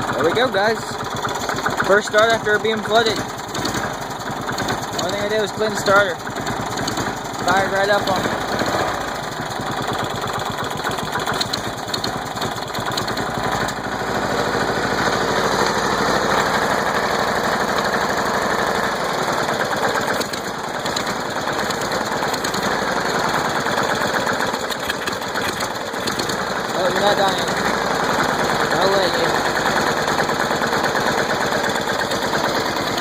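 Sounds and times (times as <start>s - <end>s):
riding mower engine running: 0.0s - 33.0s.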